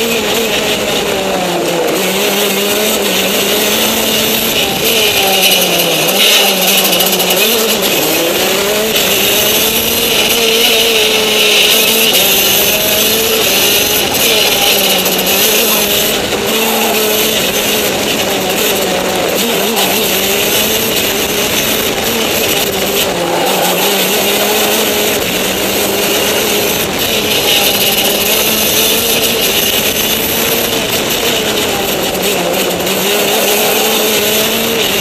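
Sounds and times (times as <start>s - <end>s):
go-kart engine revving: 0.0s - 35.0s.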